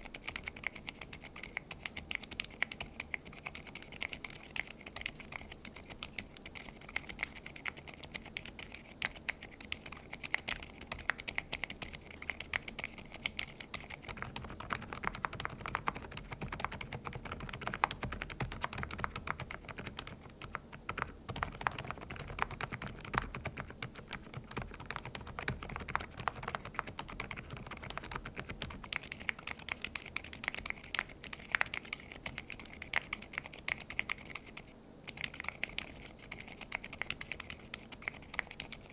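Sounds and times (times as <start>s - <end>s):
typing on mechanical keyboard: 0.0s - 38.9s.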